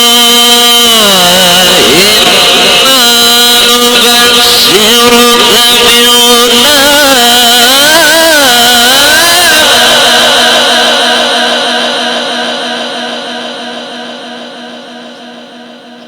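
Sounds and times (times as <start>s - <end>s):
long echo of voice: 0.0s - 16.0s
man reciting melodically: 0.0s - 16.0s.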